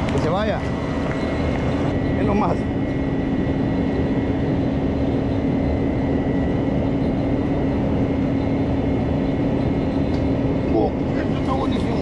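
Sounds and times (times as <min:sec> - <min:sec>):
large machine humming: 0:00.0 - 0:12.0.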